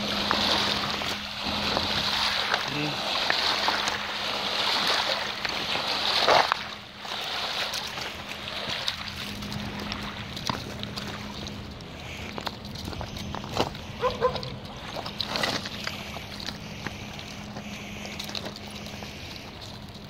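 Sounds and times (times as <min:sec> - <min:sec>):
faint steady hum: 0:00.0 - 0:20.0
river waves splashing on rocks: 0:00.0 - 0:20.0.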